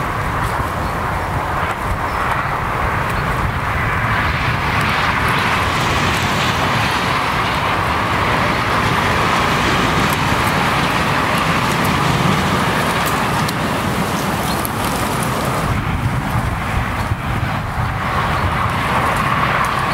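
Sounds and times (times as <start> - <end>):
steady traffic rush: 0.0 - 19.9.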